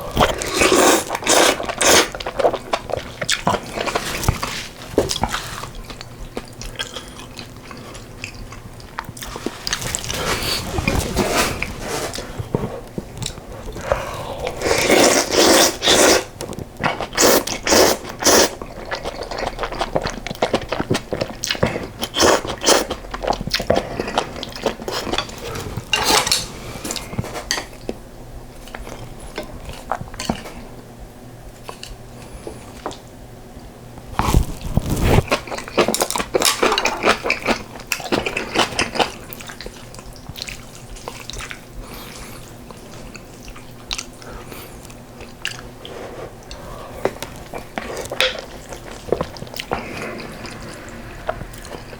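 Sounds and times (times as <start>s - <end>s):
chewing and crunching: 0.0s - 28.0s, 34.1s - 51.9s.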